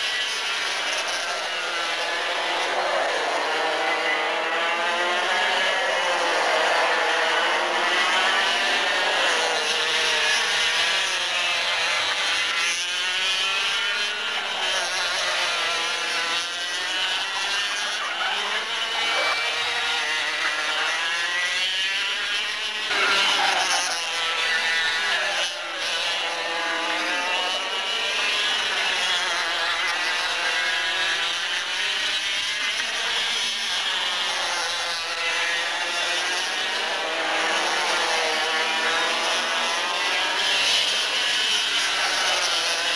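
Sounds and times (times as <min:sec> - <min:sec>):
kart engines racing: 0:00.0 - 0:42.9.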